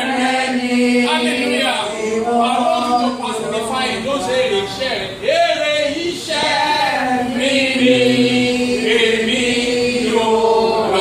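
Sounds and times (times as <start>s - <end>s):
congregation singing a hymn: 0.0s - 4.6s, 5.3s - 11.0s.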